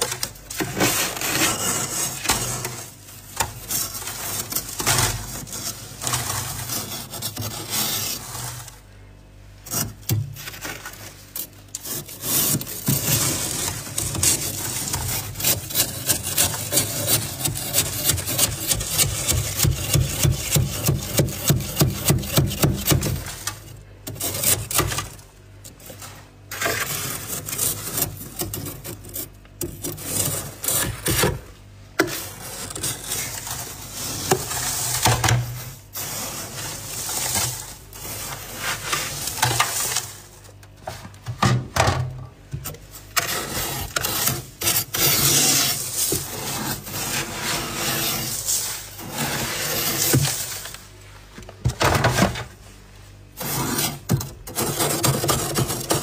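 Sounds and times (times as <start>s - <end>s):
scraping frost off freezer walls: 0.0s - 41.3s, 42.6s - 56.0s.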